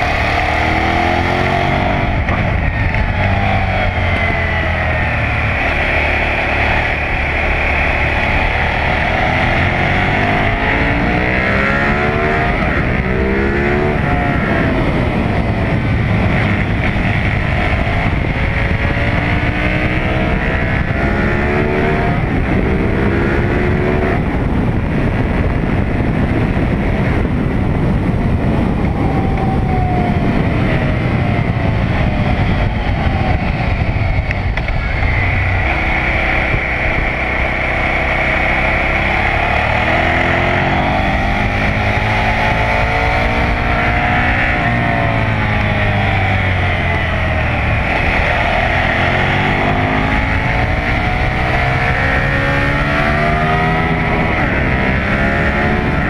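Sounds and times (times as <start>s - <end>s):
motorcycle engine revving through gears: 0.0s - 56.0s
wind rush on microphone: 0.0s - 56.0s.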